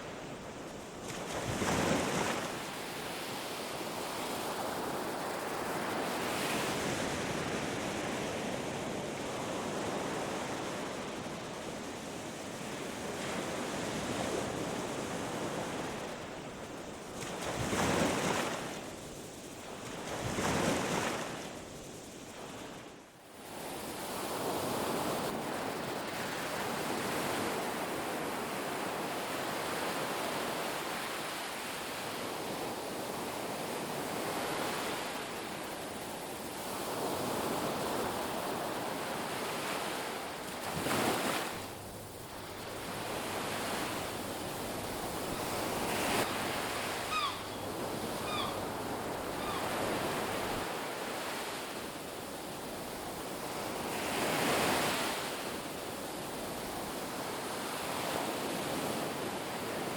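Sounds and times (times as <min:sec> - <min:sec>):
ocean waves breaking on beach: 0:00.0 - 0:21.8, 0:23.4 - 0:59.9.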